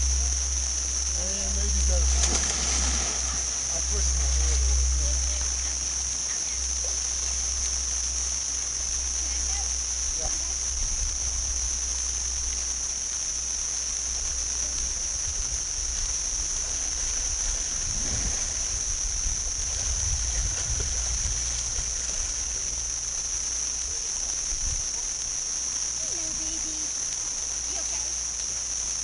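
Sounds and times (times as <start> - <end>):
insects droning: 0.0 - 29.0
low uneven rumble: 0.0 - 29.0.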